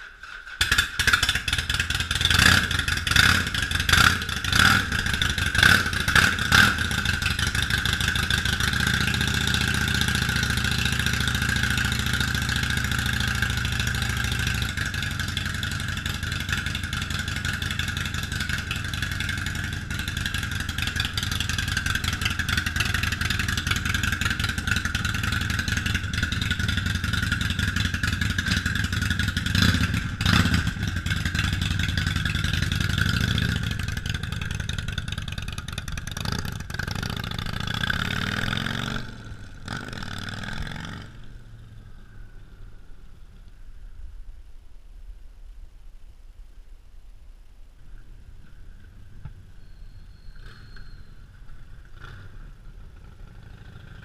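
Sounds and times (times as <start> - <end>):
motorcycle engine revving and idling: 0.0 - 43.8, 48.4 - 54.0.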